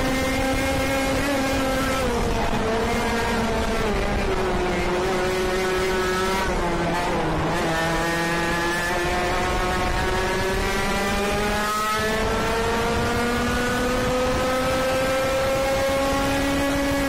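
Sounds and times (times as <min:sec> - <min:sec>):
kart engine at full throttle: 0:00.0 - 0:17.0.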